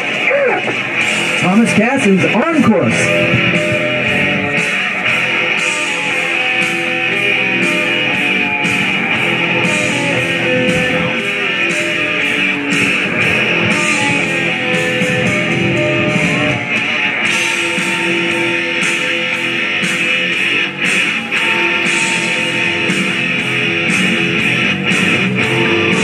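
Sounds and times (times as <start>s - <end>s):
guitar rock music: 0.0s - 26.0s.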